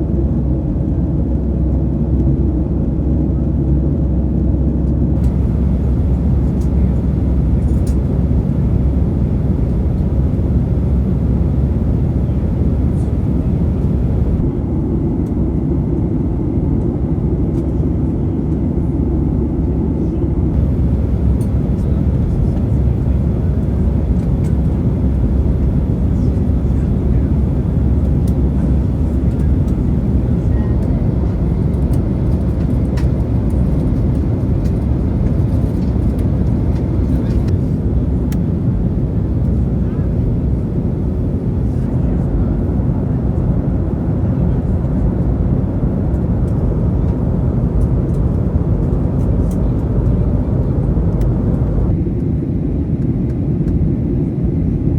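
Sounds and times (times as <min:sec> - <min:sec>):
airliner cabin engine roar: 0:00.0 - 0:54.9.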